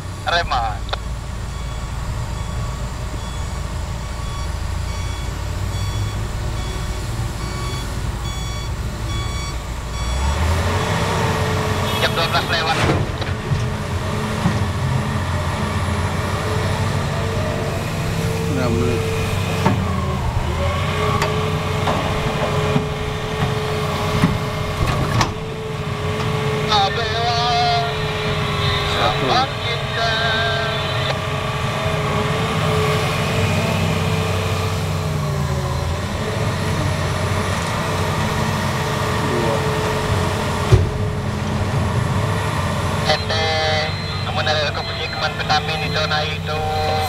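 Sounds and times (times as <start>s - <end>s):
truck back-up alarm beeping: 0.0s - 41.4s, 42.1s - 47.0s
diesel engines running: 0.0s - 47.0s.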